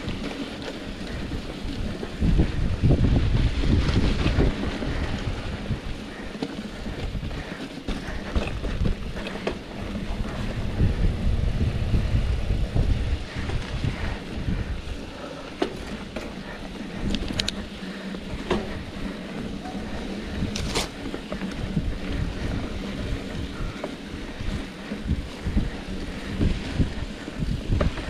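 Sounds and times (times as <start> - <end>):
bike clicks and rattles: 0.0 - 28.0
wind buffeting microphone: 0.0 - 28.0.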